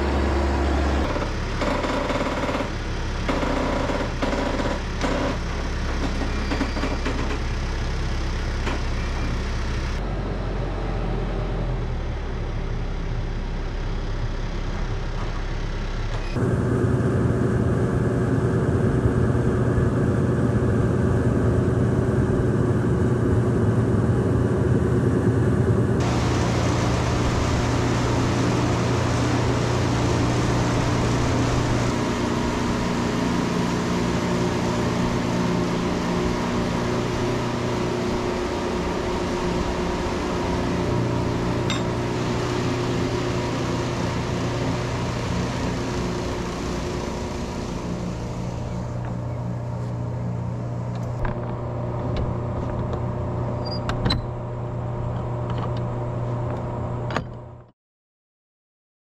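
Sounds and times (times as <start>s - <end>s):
kiln fans humming: 0.0s - 57.2s.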